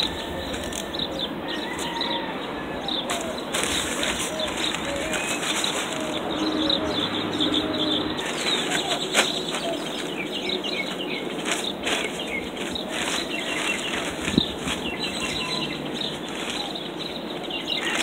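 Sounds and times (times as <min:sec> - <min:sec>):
small birds chirping: 0:00.0 - 0:18.0
plastic sheeting crinkling: 0:03.0 - 0:18.0.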